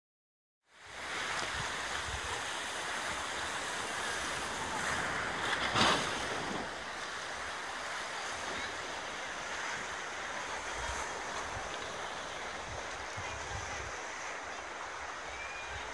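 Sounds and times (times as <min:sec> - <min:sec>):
sea waves washing ashore: 0:00.7 - 0:15.9.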